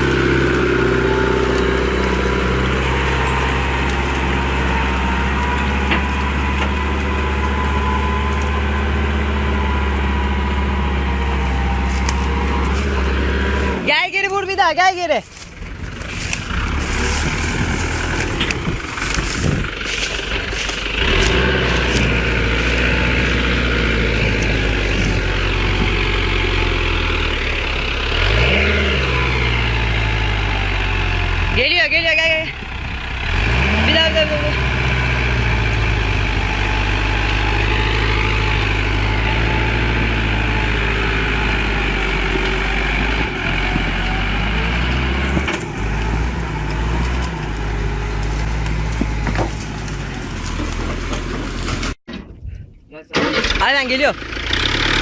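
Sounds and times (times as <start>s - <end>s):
tractor engine droning: 0.0s - 55.0s.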